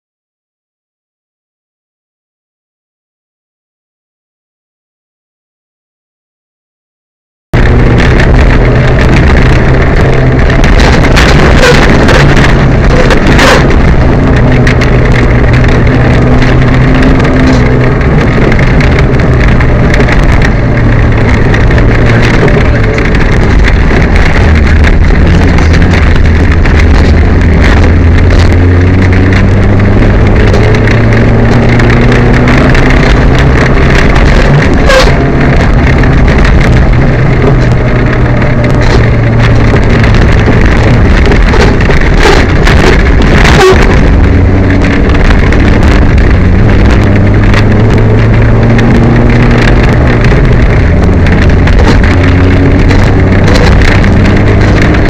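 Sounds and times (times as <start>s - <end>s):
car knocks and rattles: 7.6s - 55.0s.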